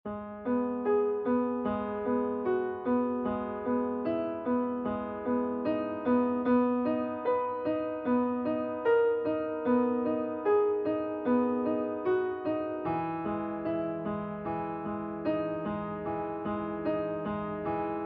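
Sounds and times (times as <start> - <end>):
piano broken chords: 0.1 - 18.0.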